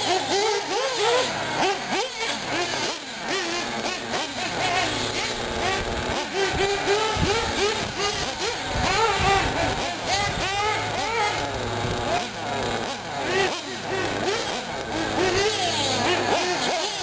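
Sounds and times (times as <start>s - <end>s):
small nitro engines revving: 0.0s - 17.0s.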